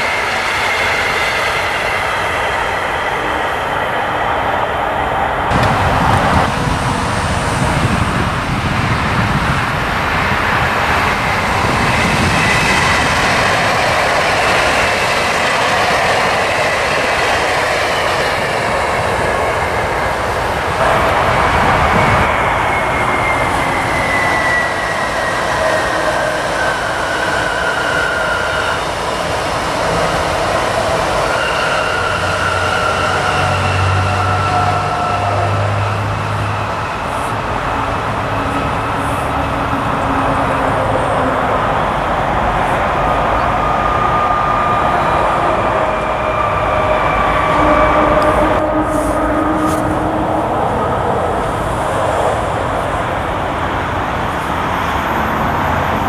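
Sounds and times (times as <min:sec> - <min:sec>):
approaching train low hum: 0:00.0 - 0:56.0
electric train traction whine: 0:00.0 - 0:56.0
wheel-on-rail noise: 0:00.0 - 0:56.0.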